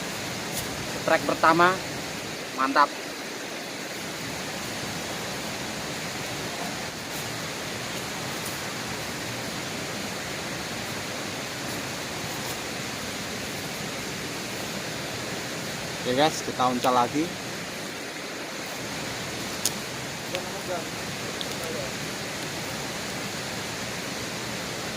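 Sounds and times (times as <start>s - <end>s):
river water rushing: 0.0s - 24.9s.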